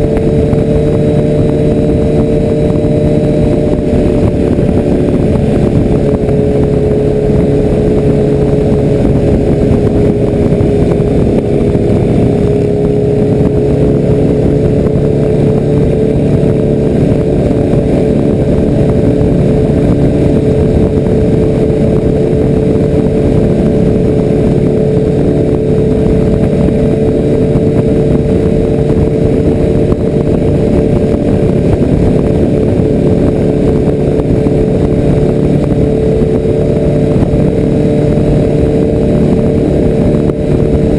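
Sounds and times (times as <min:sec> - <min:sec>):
motorcycle engine cruising: 0:00.0 - 0:40.9
wind rush: 0:00.0 - 0:40.9.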